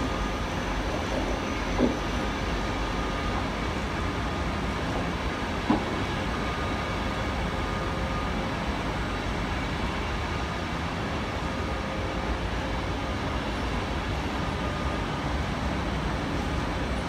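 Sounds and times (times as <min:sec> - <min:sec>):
train coaches rolling on rails: 0:00.0 - 0:17.0.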